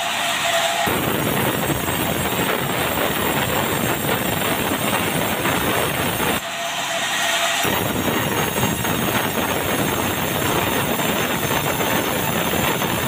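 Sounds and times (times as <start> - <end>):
sawmill saw cutting timber: 0.0 - 13.0.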